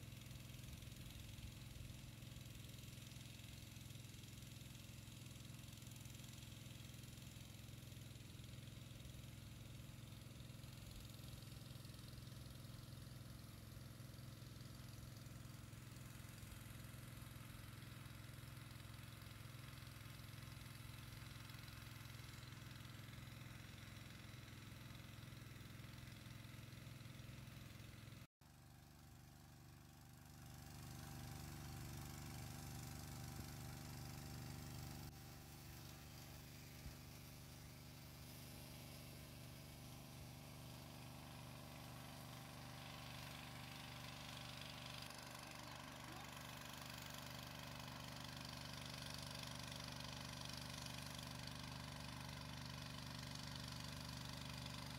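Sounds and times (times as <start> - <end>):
small engine humming: 0.0 - 54.9.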